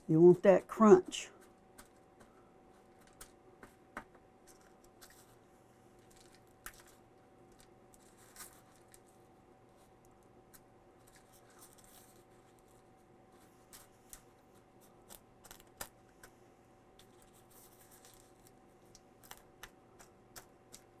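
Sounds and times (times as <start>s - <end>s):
faint steady hum: 0.0s - 21.0s
crackles of breading pressed by hand: 1.5s - 13.0s, 13.6s - 16.4s, 17.0s - 21.0s.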